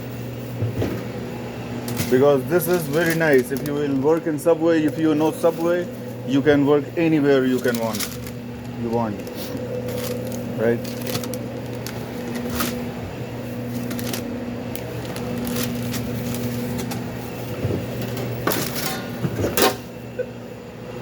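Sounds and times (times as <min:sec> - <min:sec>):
electrical hum of kitchen equipment: 0:00.0 - 0:21.0.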